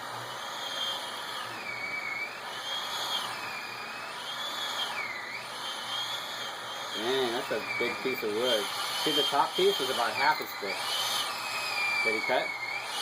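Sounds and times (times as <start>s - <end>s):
electric chainsaw cutting wood: 0.0s - 13.0s.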